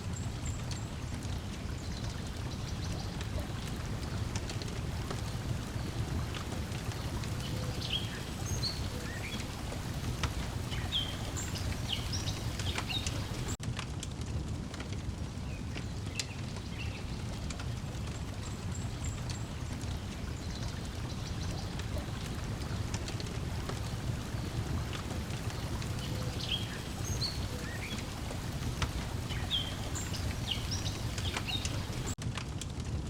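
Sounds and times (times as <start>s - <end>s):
wood fire crackling: 0.0s - 33.0s
water lapping: 1.0s - 13.6s, 17.4s - 32.2s.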